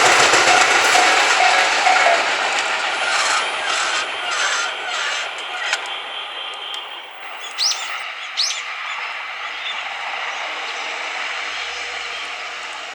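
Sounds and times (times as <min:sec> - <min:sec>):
rising bird chirps: 0:00.0 - 0:12.4
rushing background noise: 0:00.0 - 0:12.9.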